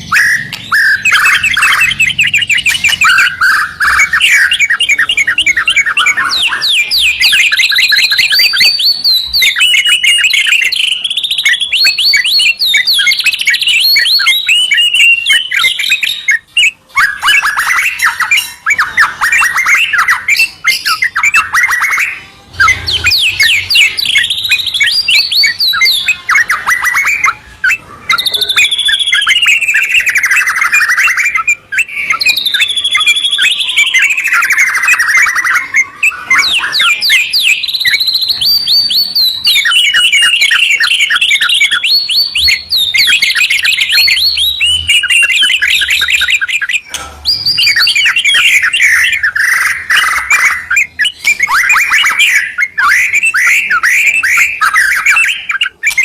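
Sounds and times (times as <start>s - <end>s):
bird whistling: 0.0s - 56.0s
songbirds singing: 0.0s - 56.0s.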